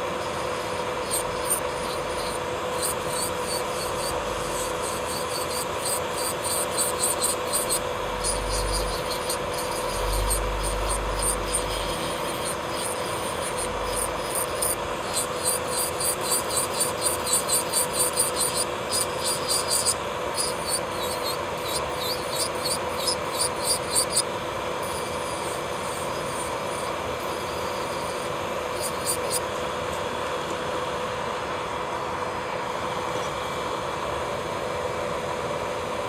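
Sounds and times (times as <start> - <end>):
drill bit scratching nail: 0.0 - 29.6
nail drill whining: 0.0 - 29.6.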